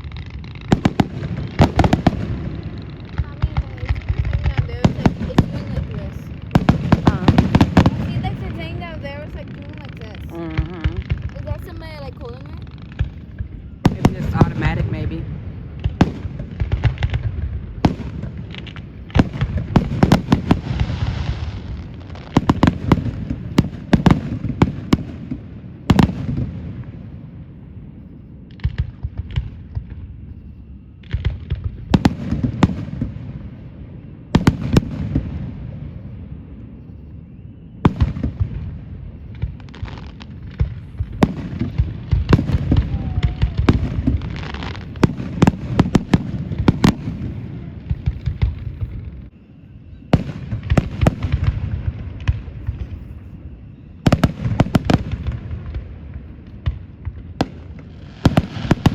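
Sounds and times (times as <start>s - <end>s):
fireworks crackling: 0.0s - 37.2s, 37.8s - 58.9s
fireworks bangs and booms: 0.0s - 58.9s.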